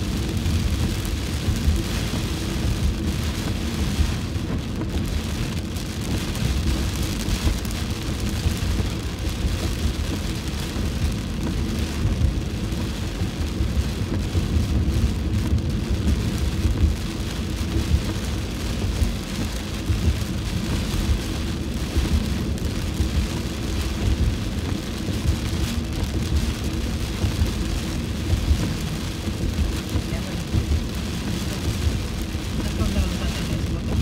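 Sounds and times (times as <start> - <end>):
heavy rain on car roof: 0.0 - 34.0
low rumble: 0.0 - 34.0.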